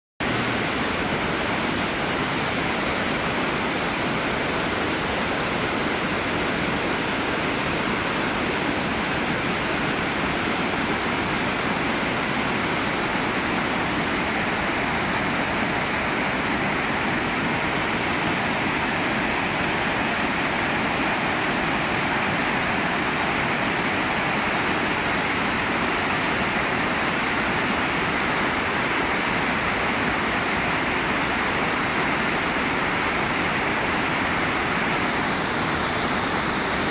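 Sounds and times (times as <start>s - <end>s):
waterfall rushing: 0.2s - 36.9s.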